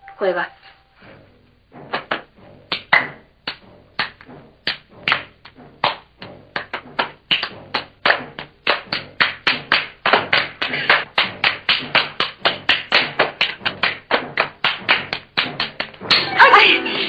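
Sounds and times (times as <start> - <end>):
rhythmic hand clapping: 1.8 - 16.3.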